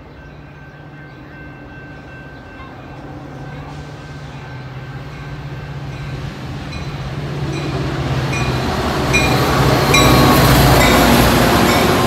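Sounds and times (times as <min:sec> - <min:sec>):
diesel locomotive engine hum: 0:00.0 - 0:12.0
locomotive bell ringing: 0:00.0 - 0:12.0.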